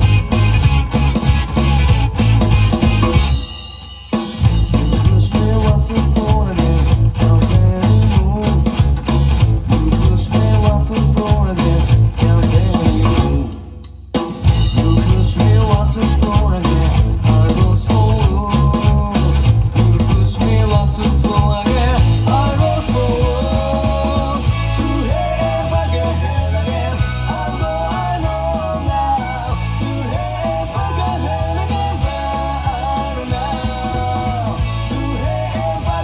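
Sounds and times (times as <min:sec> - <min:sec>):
punk rock band playing: 0:00.0 - 0:36.0.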